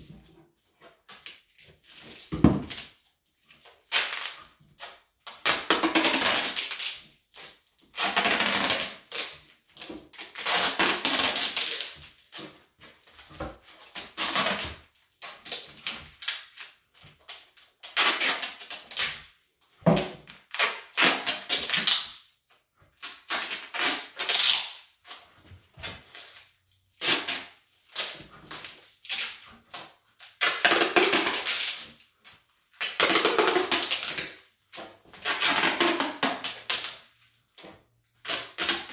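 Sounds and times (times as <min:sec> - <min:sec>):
duct tape ripping off roll: 0:03.7 - 0:12.6, 0:13.7 - 0:22.3, 0:23.0 - 0:37.3, 0:38.2 - 0:38.9.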